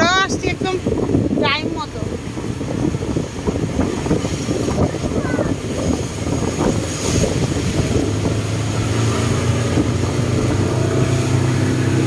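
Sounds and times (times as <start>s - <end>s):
speed boat engine running: 0.0s - 12.0s
wind and water rushing: 0.0s - 12.0s.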